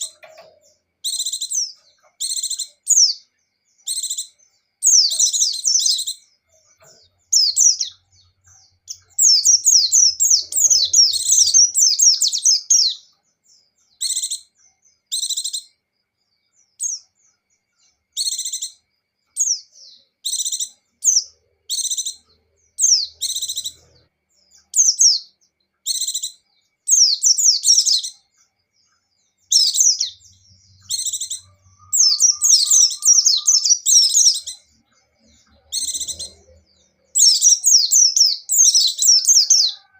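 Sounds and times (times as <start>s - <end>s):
white-eye bird singing: 0.0s - 39.9s.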